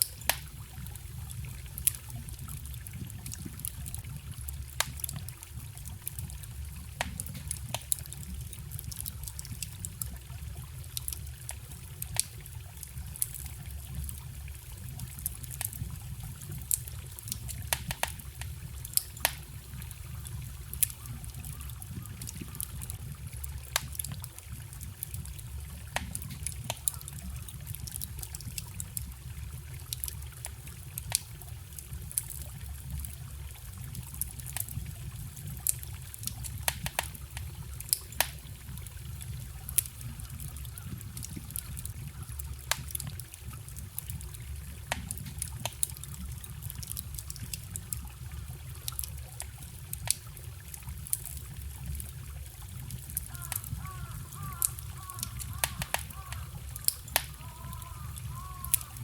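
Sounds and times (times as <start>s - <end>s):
small stream trickling: 0.0s - 59.0s
wood fire crackling and popping: 0.0s - 59.0s.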